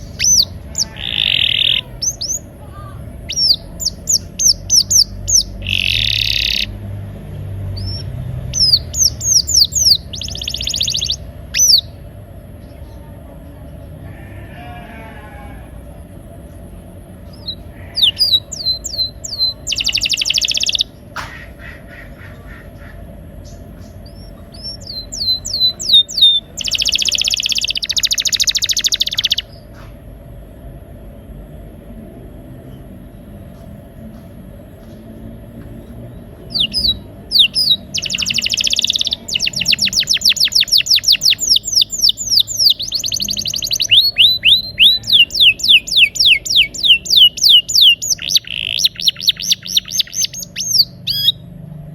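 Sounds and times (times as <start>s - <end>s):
canary singing: 0.0s - 12.9s, 13.6s - 29.8s, 35.9s - 51.8s.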